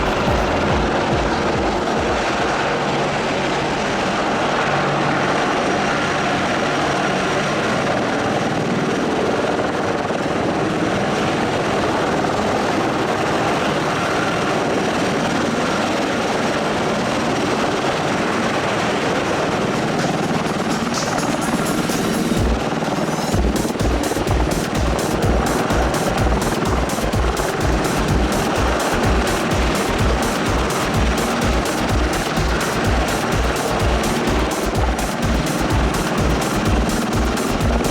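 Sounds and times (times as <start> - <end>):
helicopter turbine and rotor noise: 0.0 - 37.9.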